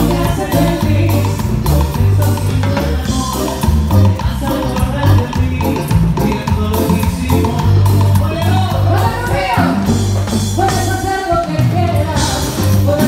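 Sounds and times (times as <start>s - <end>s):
live latin dance band: 0.0s - 13.0s.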